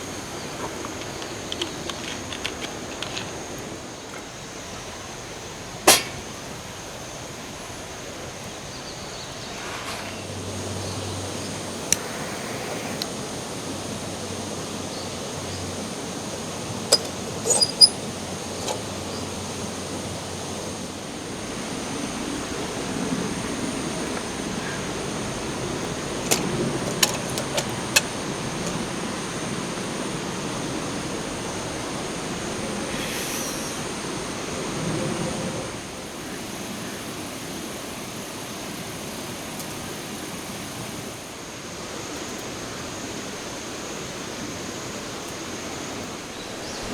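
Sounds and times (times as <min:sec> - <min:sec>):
rushing outdoor background noise: 0:00.0 - 0:46.9.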